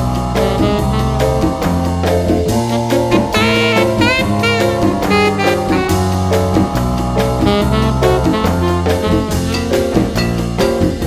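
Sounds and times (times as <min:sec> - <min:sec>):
drum kit beat: 0:00.0 - 0:11.0
jazz horn melody: 0:00.0 - 0:11.0.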